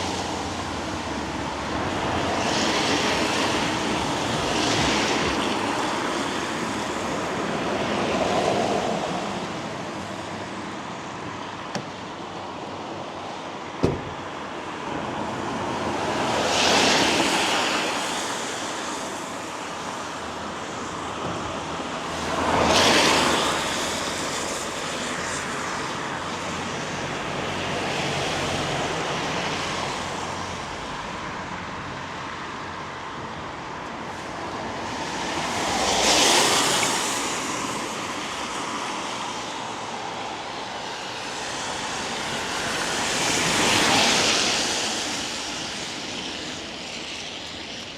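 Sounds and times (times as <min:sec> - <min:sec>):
car tyres hissing on wet road: 0:00.0 - 0:47.9.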